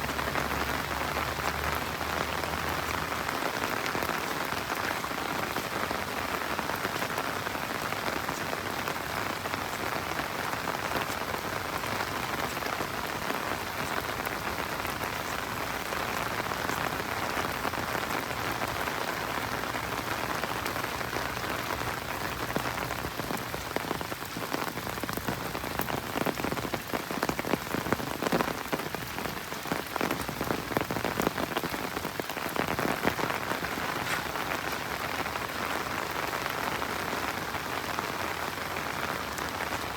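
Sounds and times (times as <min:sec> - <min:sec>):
raindrops ticking close by: 0:00.0 - 0:39.9
steady rain falling: 0:00.0 - 0:39.9.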